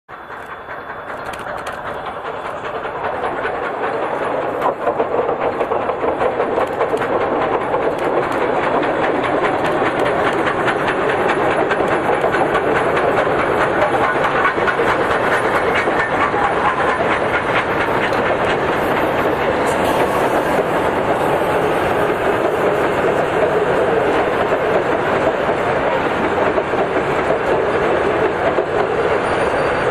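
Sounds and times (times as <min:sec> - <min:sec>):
train wheels clickety-clack: 0:00.1 - 0:29.9.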